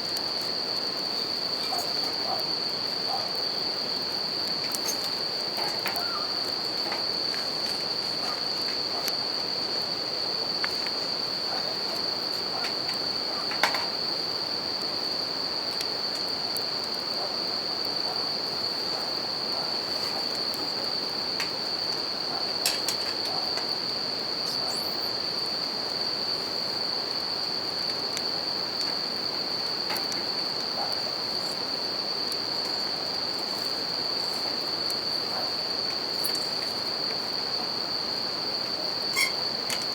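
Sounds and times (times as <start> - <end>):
campfire crackling: 0.0 - 37.6
crickets singing: 0.0 - 39.9.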